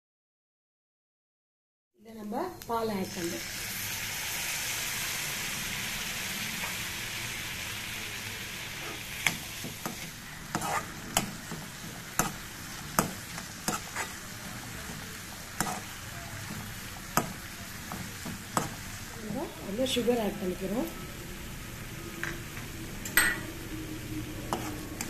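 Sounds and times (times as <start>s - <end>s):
milk sizzling in a hot pan: 2.6s - 25.0s.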